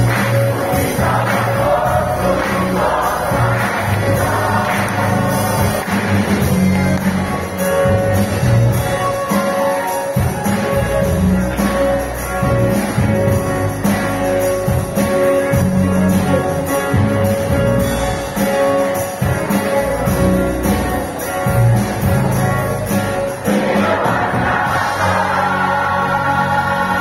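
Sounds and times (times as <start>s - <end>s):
church band playing: 0.0s - 27.0s
high jingling beat: 0.0s - 27.0s.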